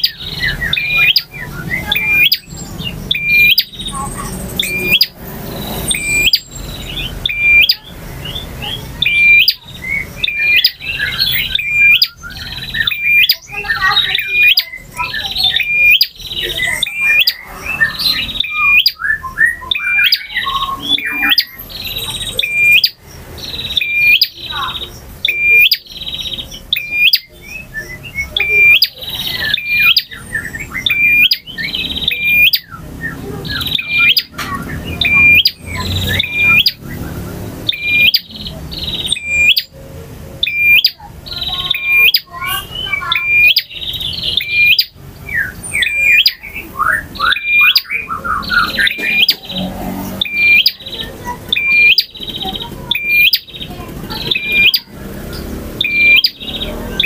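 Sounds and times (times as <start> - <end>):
bird chirping and whistling: 0.0 - 57.0.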